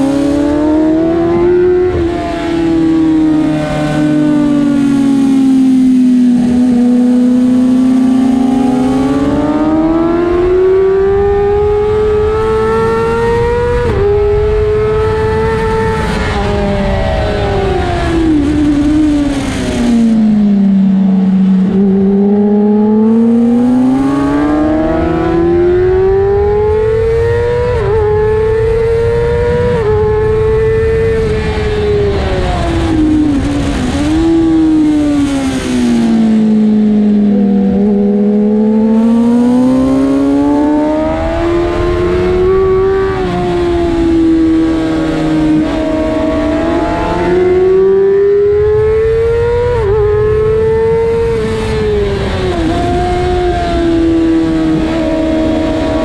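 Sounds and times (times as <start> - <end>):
motorcycle engine accelerating: 0.0 - 56.0
wind rush: 8.4 - 56.0.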